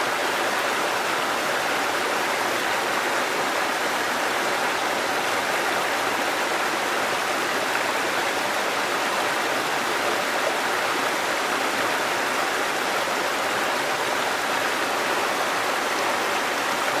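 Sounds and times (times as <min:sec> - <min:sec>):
falling water rushing: 0:00.0 - 0:17.0.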